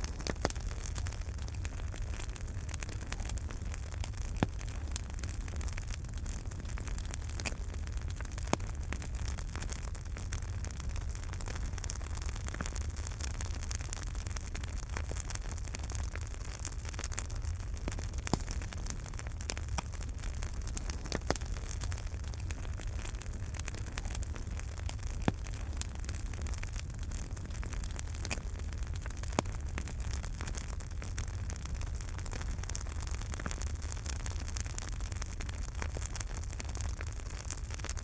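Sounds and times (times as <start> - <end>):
fire crackles and pops: 0.0 - 38.0
low rumble of flames: 0.0 - 38.0.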